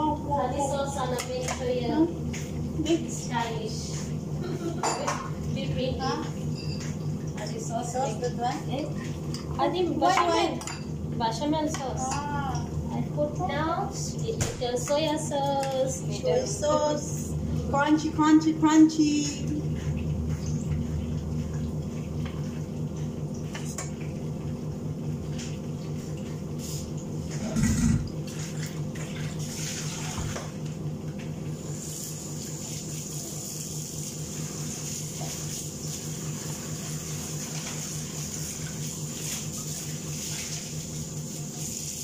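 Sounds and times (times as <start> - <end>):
extractor fan hum: 0.0 - 41.7.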